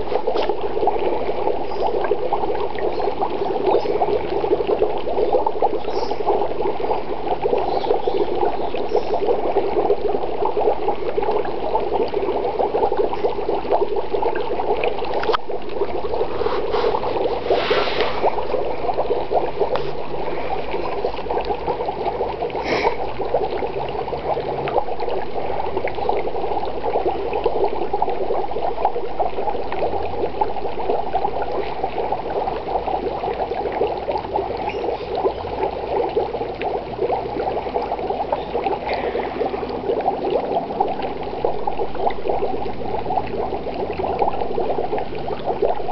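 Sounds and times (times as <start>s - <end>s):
dry ice bubbling in water: 0.0s - 45.9s.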